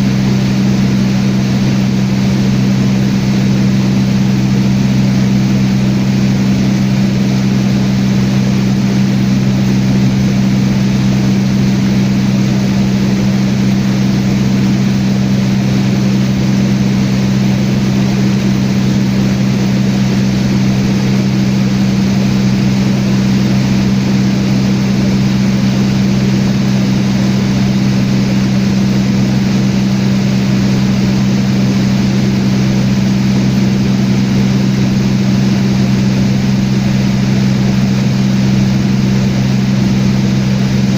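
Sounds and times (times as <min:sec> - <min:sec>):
propeller airplane engine drone: 0:00.0 - 0:40.9.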